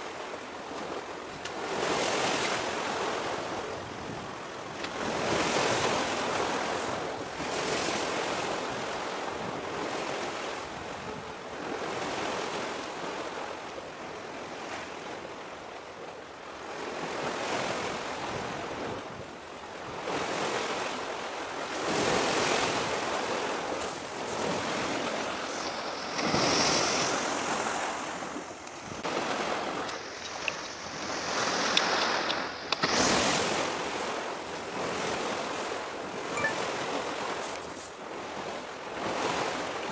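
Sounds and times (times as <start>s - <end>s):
sea waves breaking: 0.0s - 39.9s
wind on microphone: 0.7s - 13.4s, 16.7s - 39.9s.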